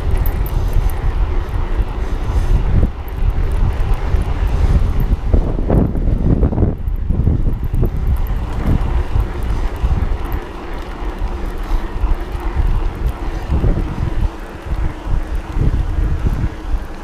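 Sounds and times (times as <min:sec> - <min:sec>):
electric motor hum: 0:00.0 - 0:17.0
tyre noise on pavement: 0:00.0 - 0:17.0
wind rumbling on microphone: 0:00.0 - 0:17.0.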